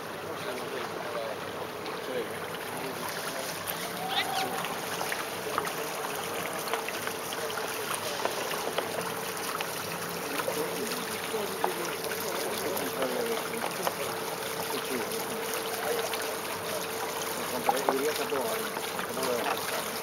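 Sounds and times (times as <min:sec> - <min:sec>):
boat engine hum: 0:00.0 - 0:20.0
water rushing along hull: 0:00.0 - 0:20.0.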